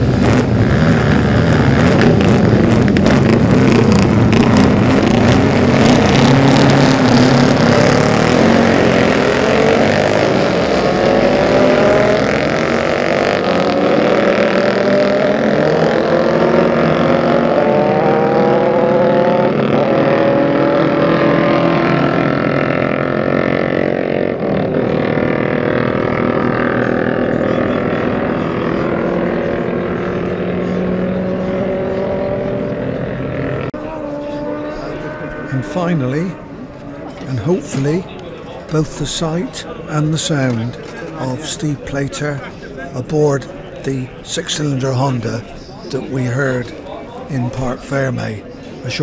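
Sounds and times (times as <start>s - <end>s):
motorbikes racing at full throttle: 0.0s - 49.0s.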